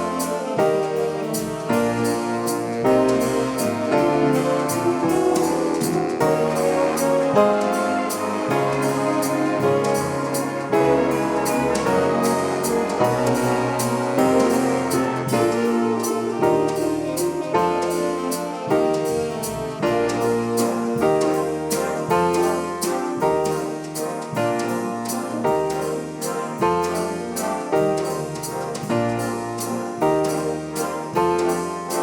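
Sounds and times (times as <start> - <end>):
swing band playing jazz: 0.0 - 32.0.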